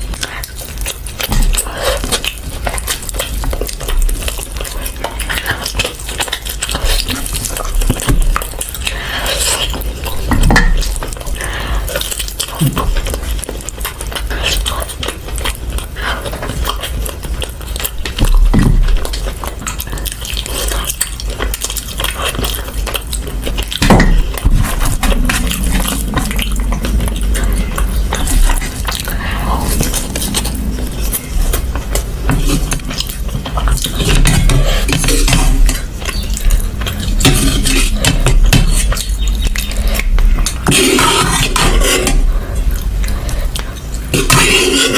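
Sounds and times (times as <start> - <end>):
close-miked eating: 0.0 - 44.9.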